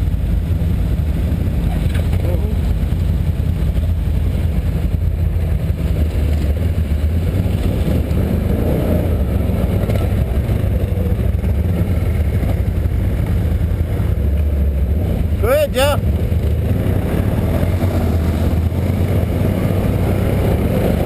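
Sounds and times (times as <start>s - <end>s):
quad bike engine rumbling: 0.0s - 21.0s.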